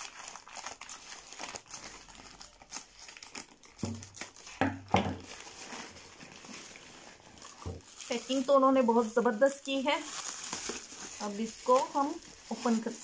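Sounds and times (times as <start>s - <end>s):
plastic mailer bag crinkling: 0.0s - 13.0s.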